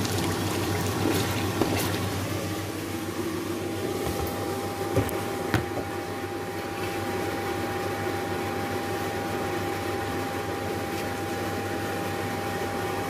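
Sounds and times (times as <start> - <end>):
mechanical hum with high whine: 0.0 - 13.0.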